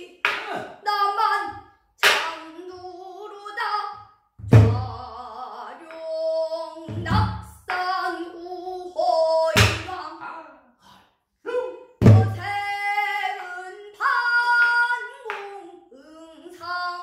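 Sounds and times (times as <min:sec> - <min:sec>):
woman singing folk song: 0:00.0 - 0:17.0.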